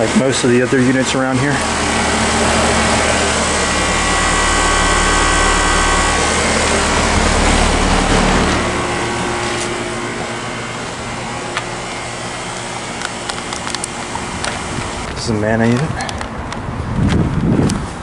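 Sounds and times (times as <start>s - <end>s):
air conditioner unit humming: 0.0s - 18.0s.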